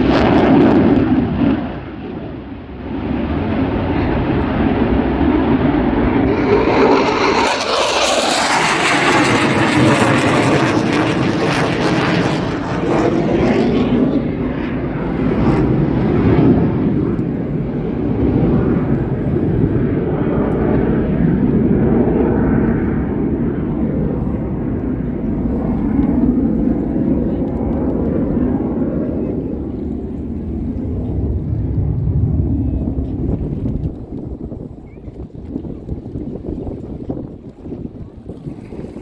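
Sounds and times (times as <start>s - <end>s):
aircraft flying past: 0.0s - 39.0s.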